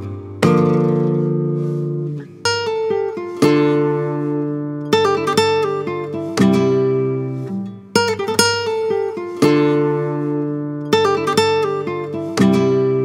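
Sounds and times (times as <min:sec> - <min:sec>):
guitar chords strummed: 0:00.0 - 0:13.0.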